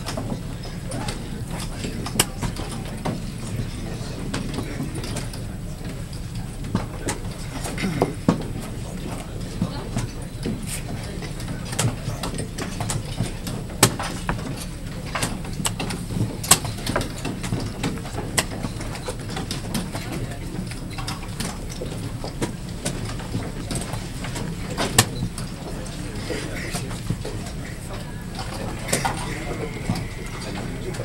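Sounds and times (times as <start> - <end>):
murmur of voices: 0.0 - 31.0.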